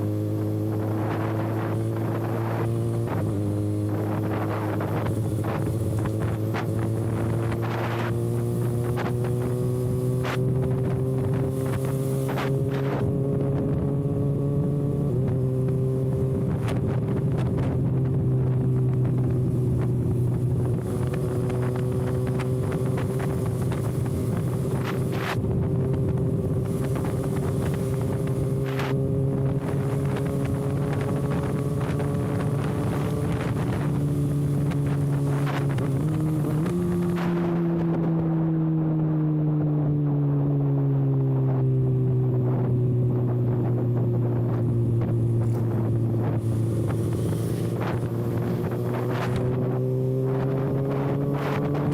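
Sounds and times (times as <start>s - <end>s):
motorcycle engine running: 0.0s - 51.9s
wind buffeting microphone: 0.0s - 51.9s.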